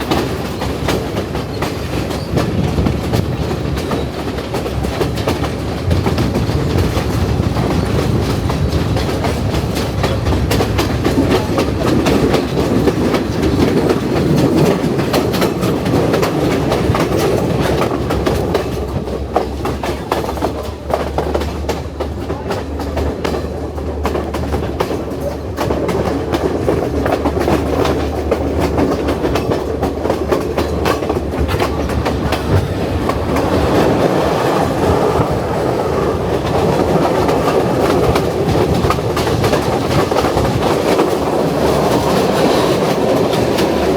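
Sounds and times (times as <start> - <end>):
train wheels clattering on rails: 0.0 - 43.9.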